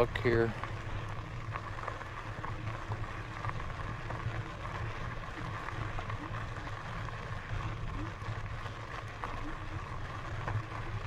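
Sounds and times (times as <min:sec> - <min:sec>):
bike tyres crunching on gravel: 0:00.0 - 0:11.0
faint ticks: 0:00.0 - 0:11.0
low motor hum: 0:00.0 - 0:11.0.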